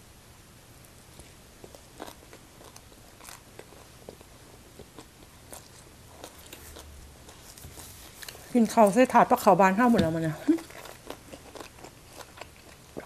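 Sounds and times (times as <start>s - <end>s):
person chewing crunchy food: 1.1s - 9.0s, 10.5s - 13.0s.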